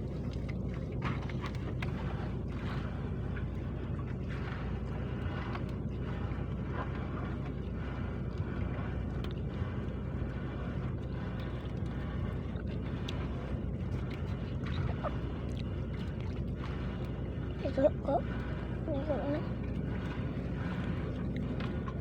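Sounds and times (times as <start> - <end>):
boat engine humming: 0.0 - 22.0
water noise: 0.0 - 22.0
wind: 0.0 - 22.0.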